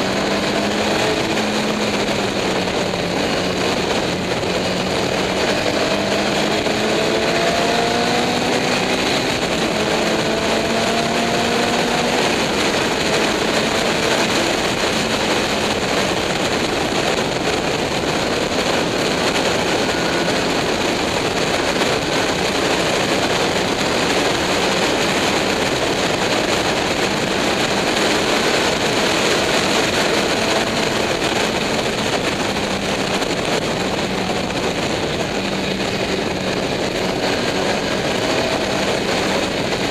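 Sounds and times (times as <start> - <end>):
racing car engine: 0.0 - 39.9
wind noise: 0.0 - 39.9.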